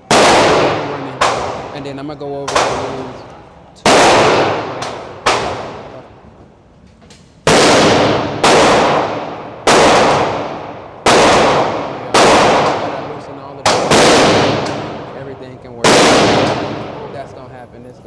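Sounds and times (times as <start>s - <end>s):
pistol gunshots echoing: 0.0s - 6.2s, 7.4s - 17.5s.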